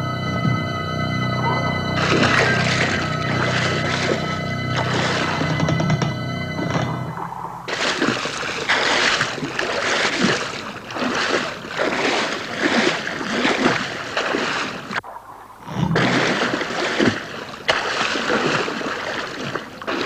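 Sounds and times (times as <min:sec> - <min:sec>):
water splashing and churning: 0:01.4 - 0:05.9, 0:06.6 - 0:20.0.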